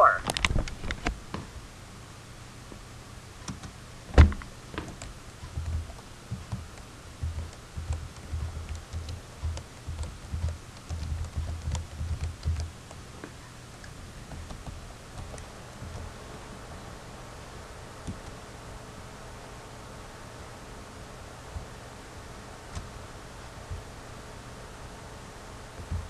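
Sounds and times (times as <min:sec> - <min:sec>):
background noise down phone line: 0:00.0 - 0:26.0.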